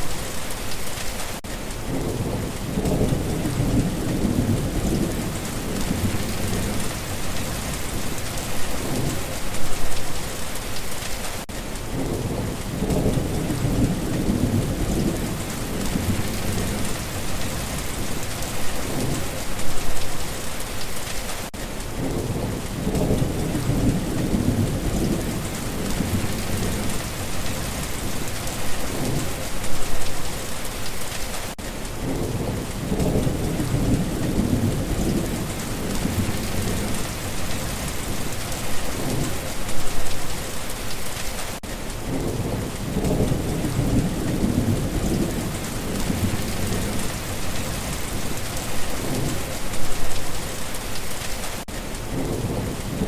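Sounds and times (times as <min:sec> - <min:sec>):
heavy rain: 0:00.0 - 0:53.0
thunder rumbling: 0:01.8 - 0:10.1, 0:11.9 - 0:20.2, 0:21.9 - 0:30.6, 0:32.0 - 0:40.6, 0:42.0 - 0:50.6.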